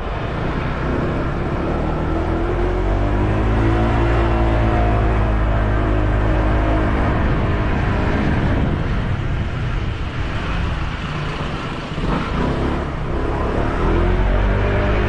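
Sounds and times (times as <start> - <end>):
wind rush: 0.0 - 15.0.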